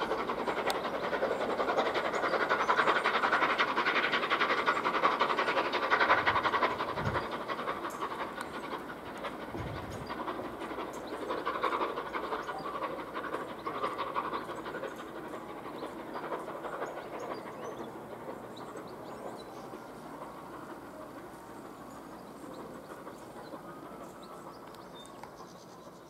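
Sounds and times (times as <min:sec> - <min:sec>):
steam hiss: 0:00.0 - 0:24.6
train rumble: 0:00.0 - 0:26.0
wheels clicking on rails: 0:00.0 - 0:26.0.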